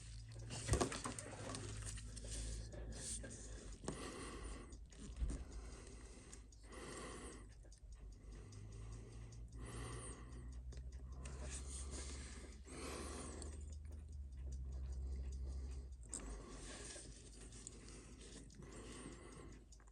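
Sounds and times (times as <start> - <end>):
slow breathing: 0.0 - 19.9.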